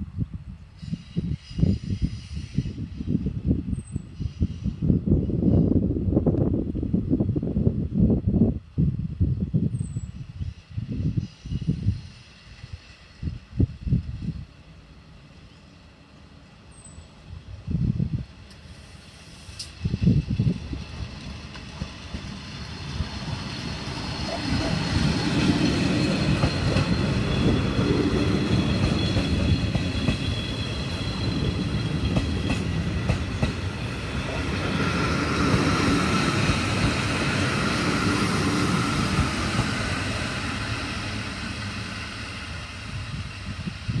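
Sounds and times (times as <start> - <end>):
train rumbling past: 0.0 - 9.2, 10.0 - 44.0.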